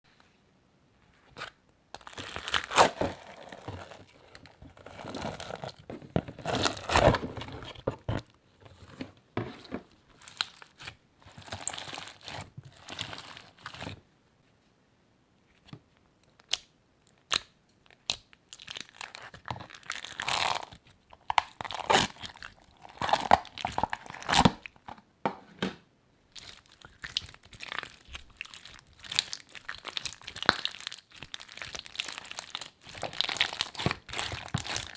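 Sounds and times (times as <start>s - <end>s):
slime squishing by hand: 1.3s - 8.8s, 9.7s - 14.0s, 17.2s - 24.9s, 26.3s - 34.9s.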